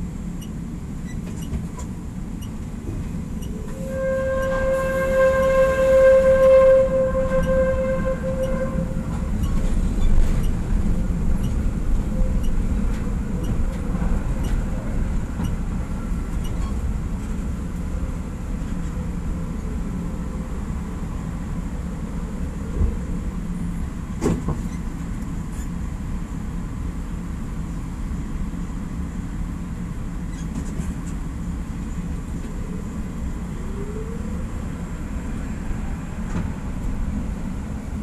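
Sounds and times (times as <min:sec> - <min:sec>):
streetcar rolling on rails: 0:00.0 - 0:38.0.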